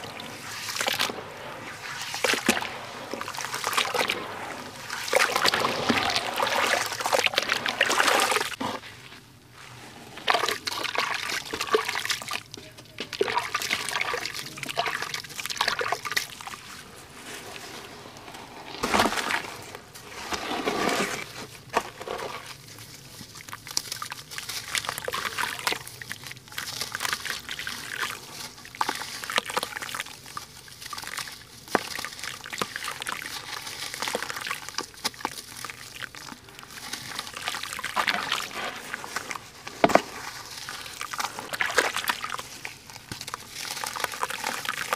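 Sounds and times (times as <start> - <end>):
water sloshing and splashing: 0.0 - 44.9
wet grit crackling: 0.0 - 44.9.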